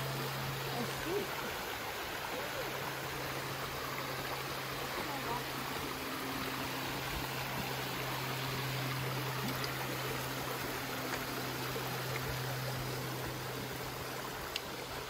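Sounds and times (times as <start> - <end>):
creek water rushing over stones: 0.0 - 15.0.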